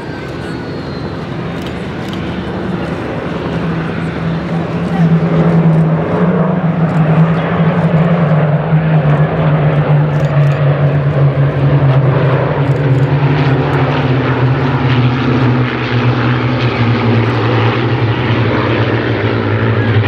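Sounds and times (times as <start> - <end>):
propeller planes flying past: 0.0 - 20.0.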